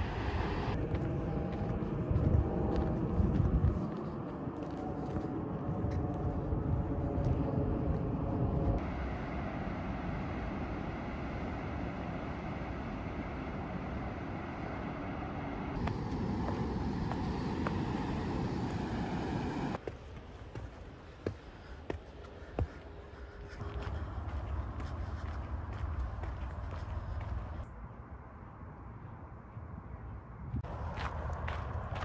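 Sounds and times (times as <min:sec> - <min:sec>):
steady rushing noise: 0:00.0 - 0:27.7
distant engine hum: 0:00.0 - 0:32.0.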